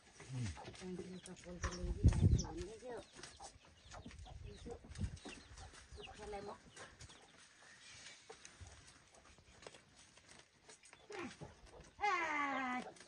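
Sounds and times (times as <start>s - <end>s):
faint chickens clucking: 0.0s - 13.0s.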